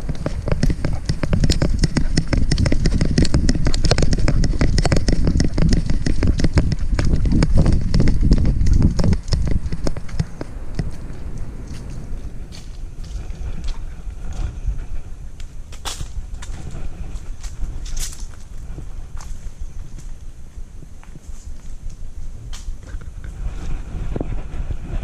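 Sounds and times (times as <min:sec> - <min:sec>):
low rumble: 0:00.0 - 0:21.1.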